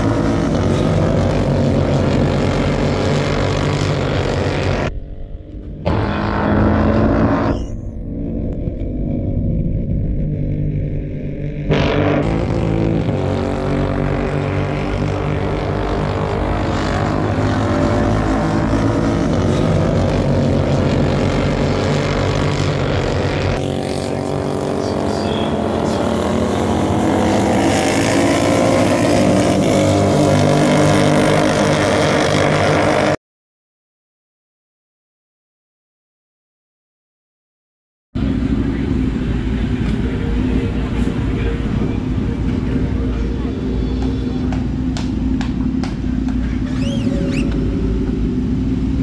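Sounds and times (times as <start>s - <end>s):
motorcycles revving high: 0.0s - 33.2s, 38.2s - 49.0s.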